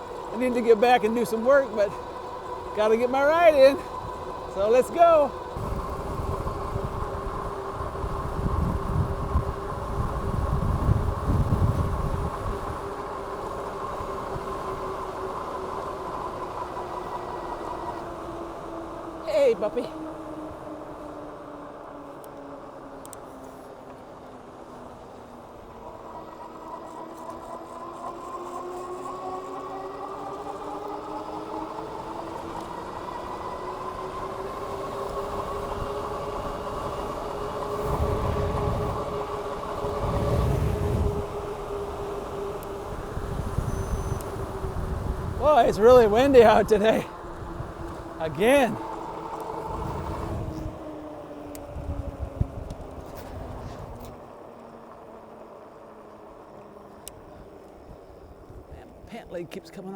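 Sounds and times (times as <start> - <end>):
e-bike hub motors whining: 0.0 - 59.9
road and wind noise: 0.0 - 59.9.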